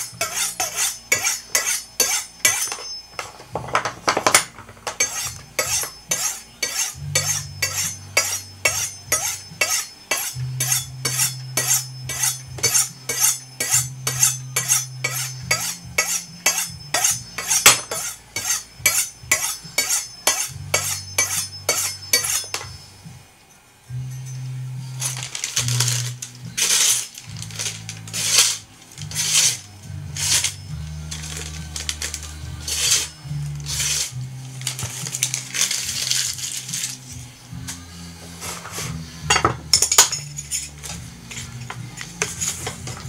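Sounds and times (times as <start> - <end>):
knife scraping on sharpening rods: 0.0 - 3.0, 4.9 - 22.9, 24.0 - 37.2, 38.4 - 43.0.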